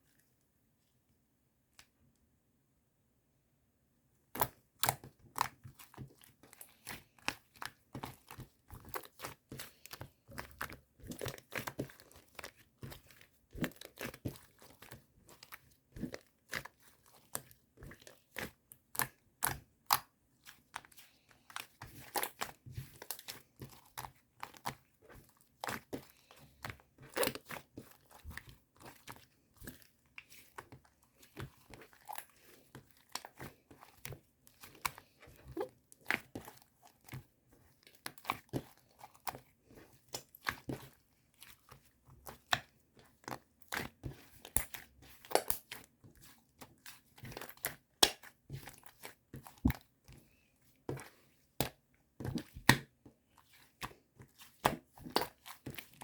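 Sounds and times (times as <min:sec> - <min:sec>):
crunching and crinkling by hand: 0:04.4 - 0:56.0.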